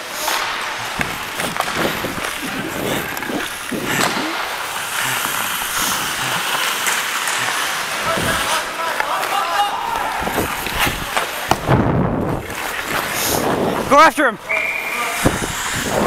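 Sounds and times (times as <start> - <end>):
skate blades scraping ice: 0.0 - 16.0.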